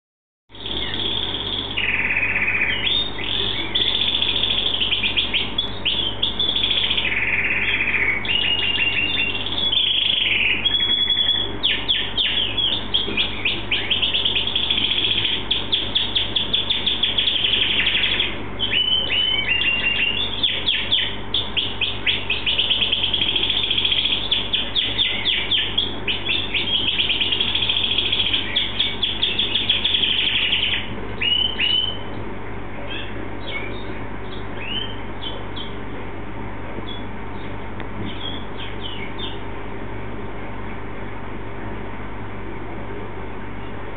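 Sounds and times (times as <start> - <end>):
canary singing trills and chirps: 0.5 - 35.9, 36.8 - 39.5.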